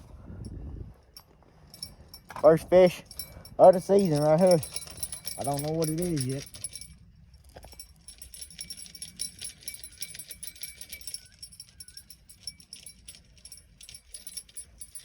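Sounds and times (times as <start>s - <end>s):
fishing reel metallic jingling: 1.2s - 15.0s.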